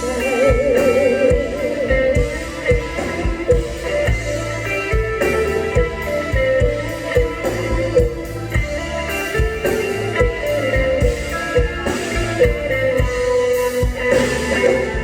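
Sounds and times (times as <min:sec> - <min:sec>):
drums keeping a beat: 0:00.0 - 0:15.0
guitar melody: 0:00.0 - 0:15.0.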